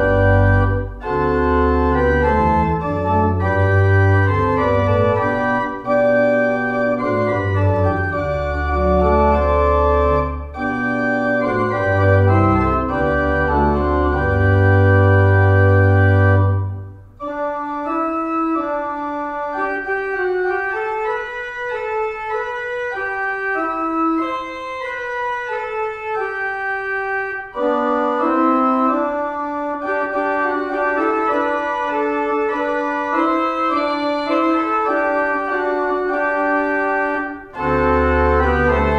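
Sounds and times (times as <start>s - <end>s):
deep organ pedal bass: 0.0s - 38.9s
organ chords: 0.0s - 38.9s.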